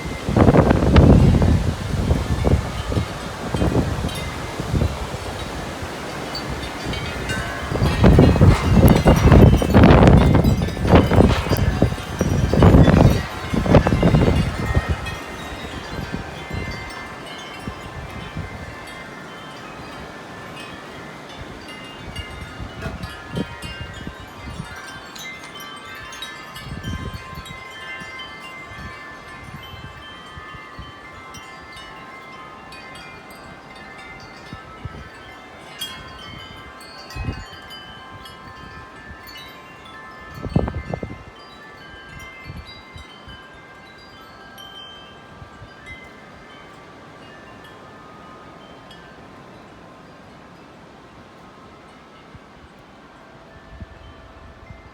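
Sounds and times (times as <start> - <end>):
wind buffeting microphone: 0.0 - 47.8
wind chimes ringing: 0.0 - 54.9.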